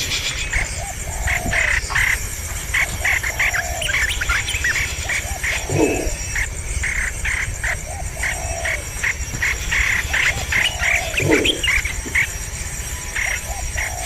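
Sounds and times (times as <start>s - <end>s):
bird chirps: 0.0s - 14.0s
deep swelling bird calls: 0.0s - 14.0s
high pulsing insect drone: 0.0s - 14.0s
lower arching bird calls: 0.0s - 14.0s.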